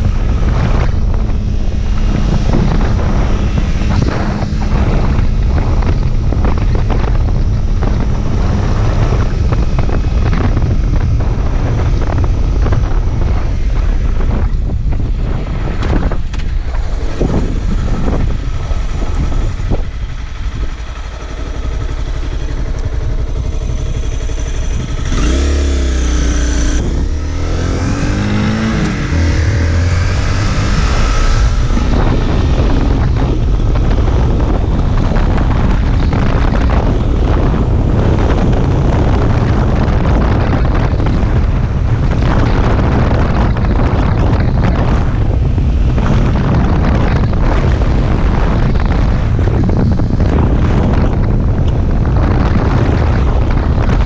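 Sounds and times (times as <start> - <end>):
motorcycle engine accelerating: 0.0 - 54.0
wind noise on microphone: 0.0 - 54.0.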